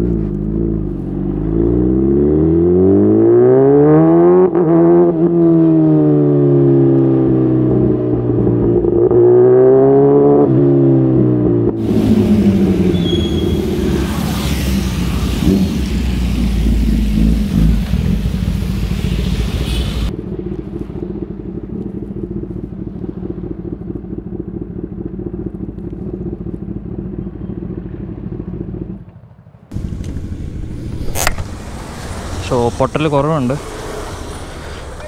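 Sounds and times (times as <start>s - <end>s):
motorcycle engine slowing and idling: 0.0s - 3.5s, 5.1s - 35.0s
wind and road noise: 0.0s - 35.0s.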